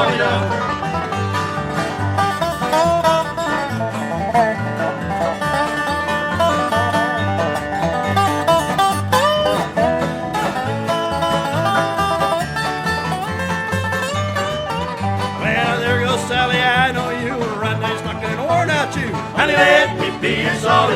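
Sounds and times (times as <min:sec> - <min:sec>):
banjo: 0:00.0 - 0:20.9
bass line: 0:00.0 - 0:20.9
guitar: 0:00.0 - 0:20.9.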